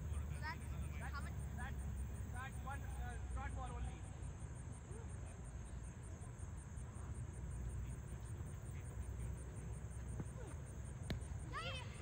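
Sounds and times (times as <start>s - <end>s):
constant low rumble: 0.0s - 12.0s.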